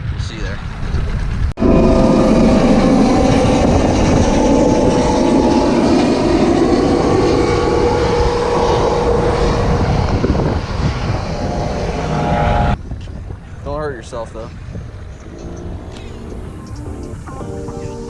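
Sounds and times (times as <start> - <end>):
wind rushing: 1.2 - 18.0.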